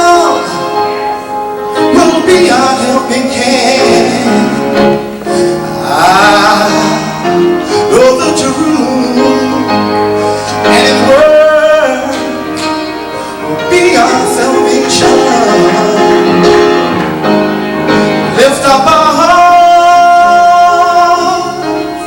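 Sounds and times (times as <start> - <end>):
gospel singers with instruments: 0.0 - 22.0.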